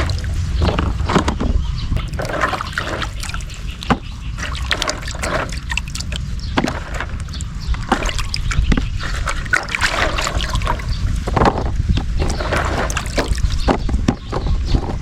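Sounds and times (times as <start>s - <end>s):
roots knocking and clattering: 0.0s - 15.0s
water sloshing and splashing: 0.0s - 15.0s.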